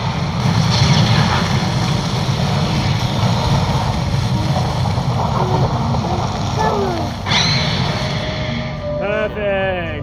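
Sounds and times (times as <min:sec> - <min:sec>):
deep rumbling drone: 0:00.0 - 0:09.5.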